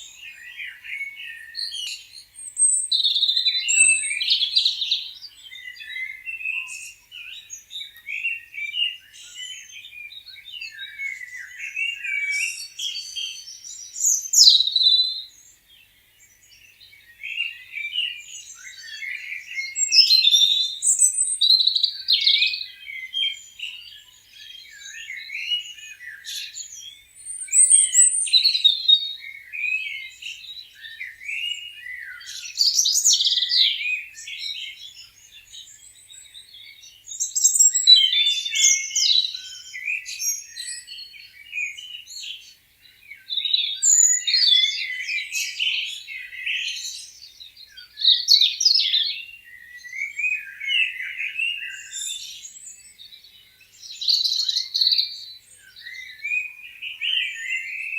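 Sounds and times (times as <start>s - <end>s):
small birds chirping and singing: 0.0s - 57.9s.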